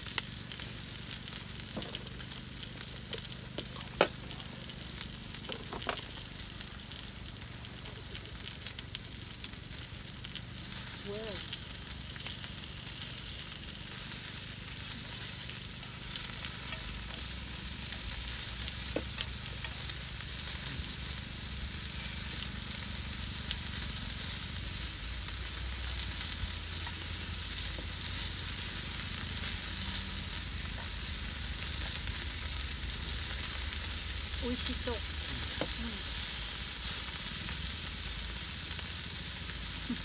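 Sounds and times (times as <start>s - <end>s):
meat sizzling in a frying pan: 0.0s - 40.0s.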